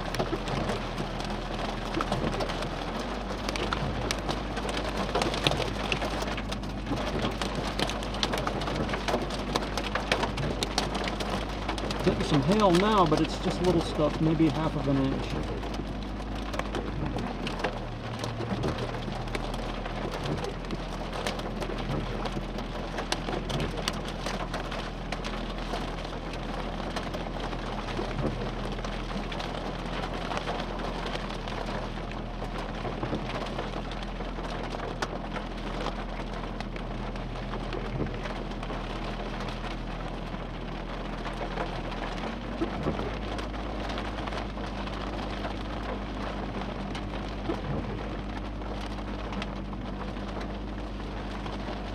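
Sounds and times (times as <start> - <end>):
hail ticking: 0.0 - 51.9
rain hiss: 0.0 - 51.9.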